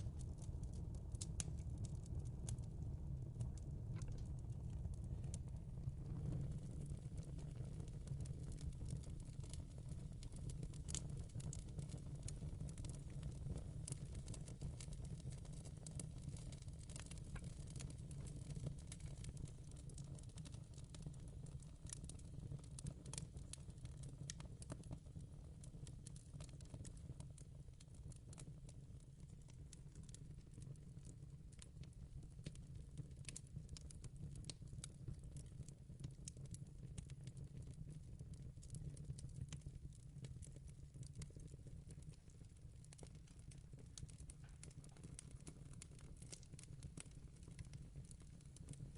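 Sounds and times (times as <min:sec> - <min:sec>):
wood fire crackling: 0:00.0 - 0:02.6, 0:03.4 - 0:28.6, 0:29.2 - 0:48.9.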